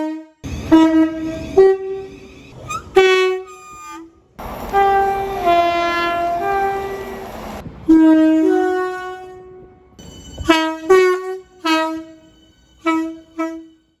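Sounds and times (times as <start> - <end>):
two-tone train horn: 0.0 - 14.0.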